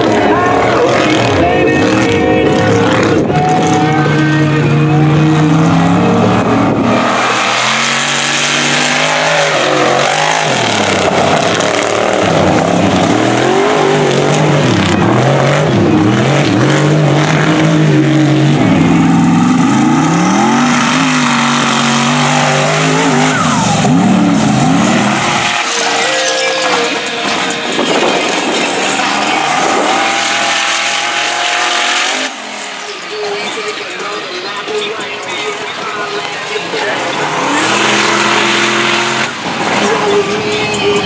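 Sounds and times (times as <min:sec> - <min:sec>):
truck engine revving hard: 0:00.0 - 0:34.4, 0:35.5 - 0:41.0.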